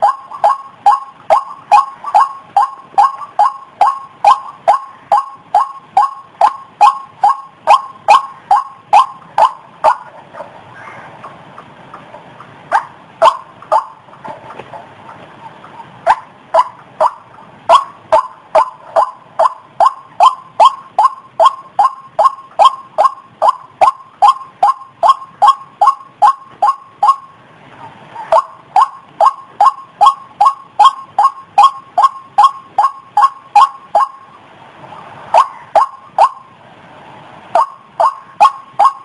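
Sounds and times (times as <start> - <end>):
bird call repeated sharp notes: 0.0 - 34.4, 35.0 - 36.6, 37.5 - 39.0.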